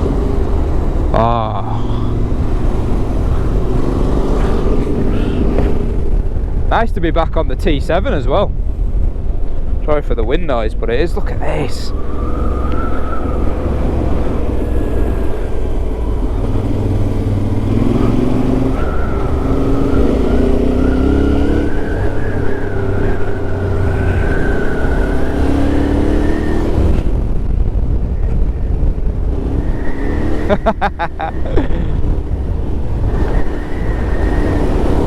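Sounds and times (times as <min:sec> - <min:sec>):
motorcycle engine revving: 0:00.0 - 0:06.7, 0:11.8 - 0:35.0
wind buffeting microphone: 0:00.0 - 0:35.0.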